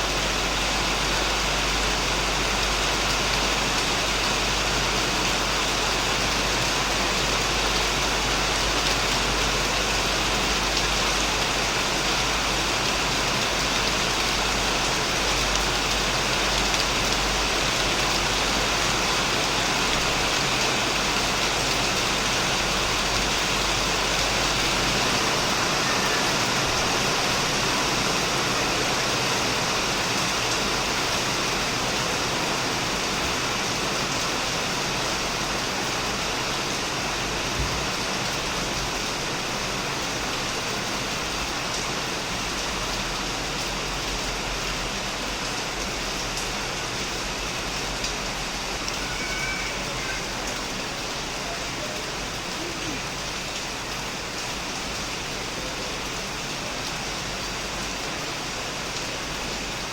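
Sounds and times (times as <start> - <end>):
heavy rain on shed roof: 0.0 - 59.9.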